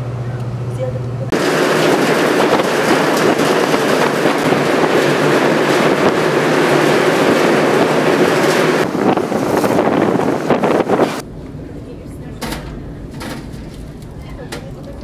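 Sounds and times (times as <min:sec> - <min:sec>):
ferry noise rushing: 0:01.3 - 0:15.0.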